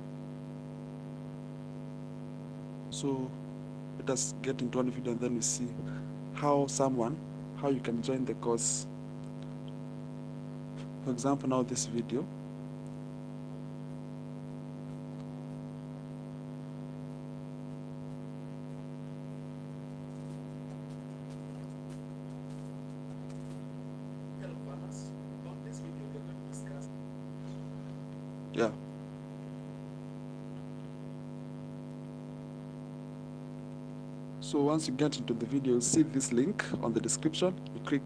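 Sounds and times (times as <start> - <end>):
electrical mains hum: 0.0 - 38.0.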